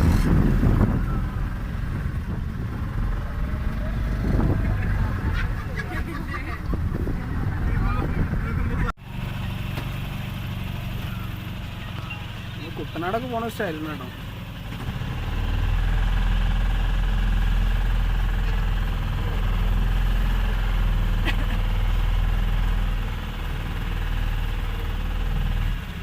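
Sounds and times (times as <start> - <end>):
motorboat engine rumbling: 0.0 - 26.0.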